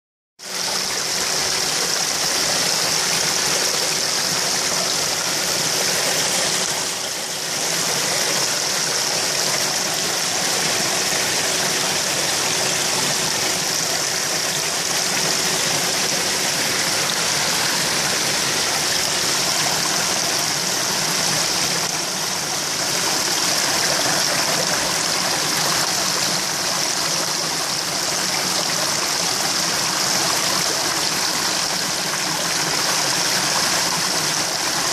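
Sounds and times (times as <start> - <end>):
water splashing into pond: 0.4 - 34.9.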